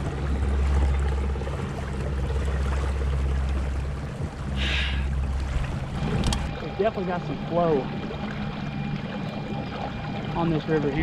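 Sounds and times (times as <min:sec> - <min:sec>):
electric motor rumble and hum: 0:00.0 - 0:11.0
water rushing along a hull: 0:00.0 - 0:11.0.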